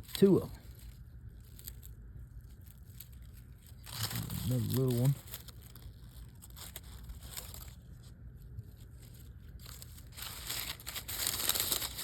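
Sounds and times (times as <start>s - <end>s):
crisp crunching and rustling: 0.0s - 12.0s
faint low rumble: 0.0s - 12.0s.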